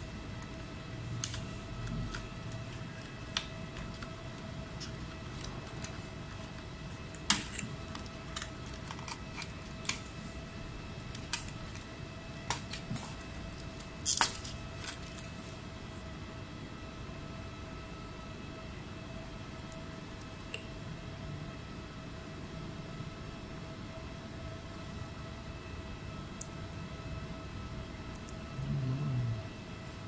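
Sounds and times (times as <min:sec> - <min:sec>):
faint electrical whine: 0:00.0 - 0:30.0.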